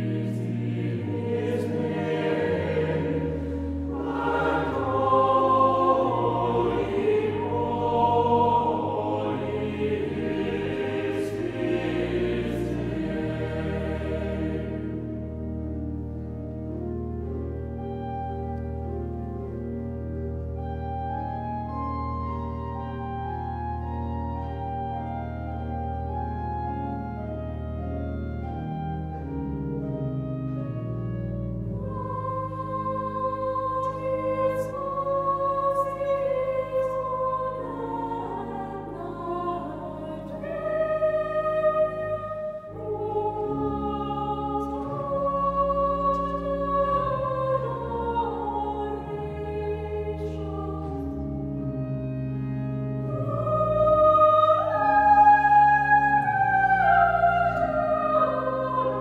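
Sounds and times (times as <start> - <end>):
choir singing long notes: 0.0 - 19.8, 20.6 - 59.0
low sustained organ notes: 0.0 - 59.0.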